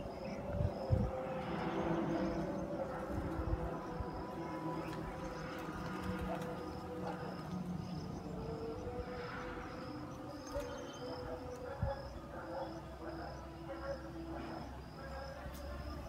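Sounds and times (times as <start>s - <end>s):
birds calling in chorus: 0.0s - 16.0s
distant traffic hum: 0.0s - 16.0s.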